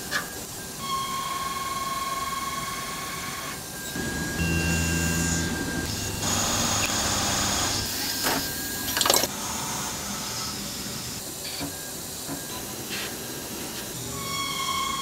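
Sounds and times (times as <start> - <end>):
lathe hiss and whir: 2.8 - 15.0.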